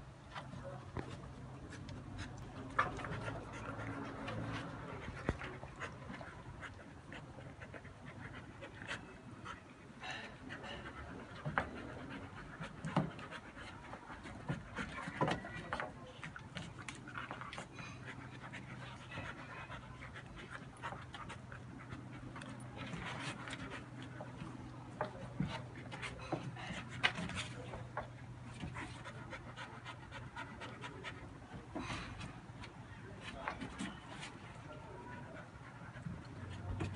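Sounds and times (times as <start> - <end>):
clicks and scuffs of dogs playing: 0.2 - 36.9
dogs panting: 0.3 - 36.9.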